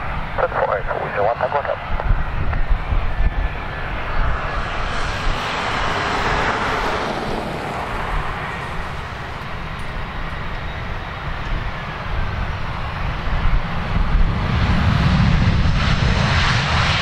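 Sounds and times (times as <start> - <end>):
jet engine rushing noise: 0.0 - 17.0
steady low rumble: 0.0 - 17.0.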